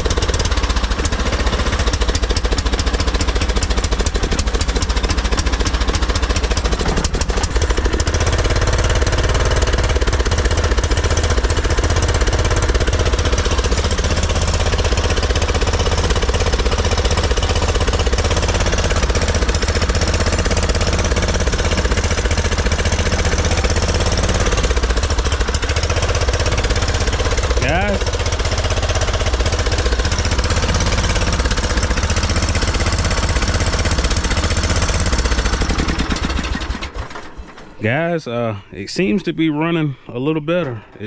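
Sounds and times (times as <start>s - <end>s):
riding mower engine running: 0.0s - 41.0s.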